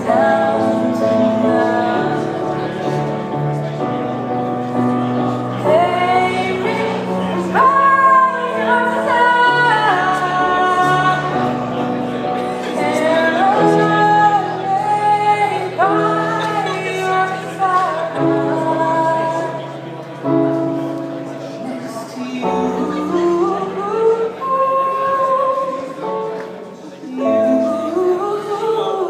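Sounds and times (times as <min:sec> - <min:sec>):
woman singing a slow ballad: 0:00.0 - 0:03.0, 0:05.5 - 0:20.0, 0:21.4 - 0:29.0
digital piano chords: 0:00.0 - 0:29.0.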